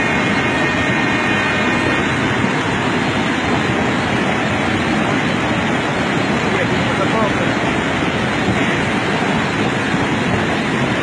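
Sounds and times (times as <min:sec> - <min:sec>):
mudflow torrent roaring: 0:00.0 - 0:11.0.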